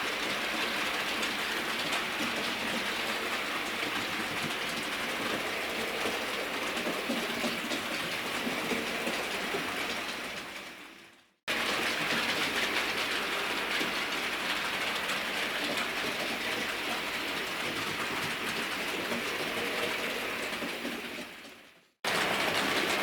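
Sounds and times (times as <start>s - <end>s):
model train rolling on track: 0.0s - 10.6s, 11.5s - 21.5s, 22.1s - 23.0s.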